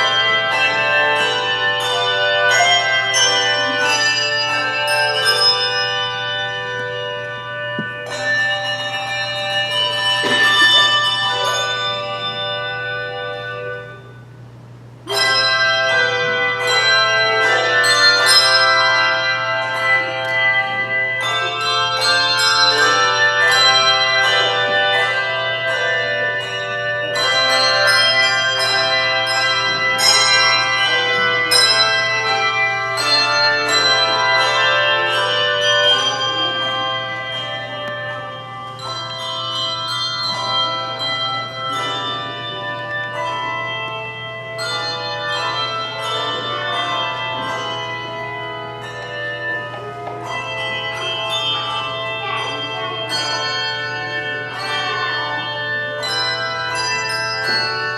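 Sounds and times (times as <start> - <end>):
handbell choir playing: 0.0 - 14.4, 15.0 - 57.9.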